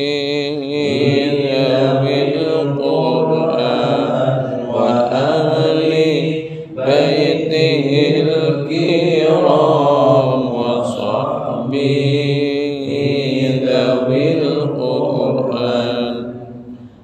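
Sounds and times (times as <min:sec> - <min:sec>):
congregation chanting: 0:00.0 - 0:17.0.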